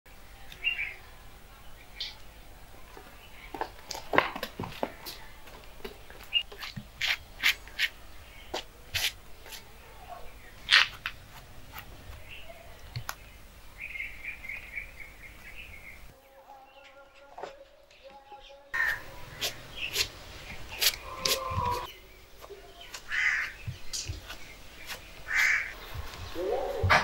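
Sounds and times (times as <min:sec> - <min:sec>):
small birds chirping: 0:00.2 - 0:04.0, 0:04.8 - 0:27.0.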